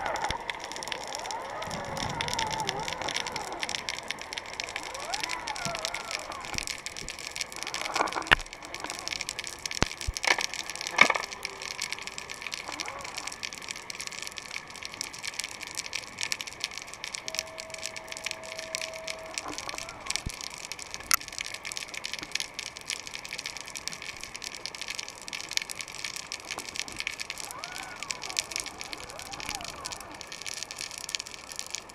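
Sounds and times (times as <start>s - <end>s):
faint steady whine: 0.0s - 31.9s
underwater crackle of tiny clicks: 0.0s - 31.9s.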